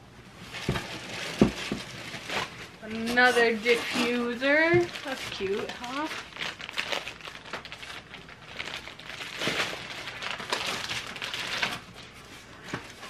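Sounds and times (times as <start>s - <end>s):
plastic packaging crinkling: 0.4s - 13.0s.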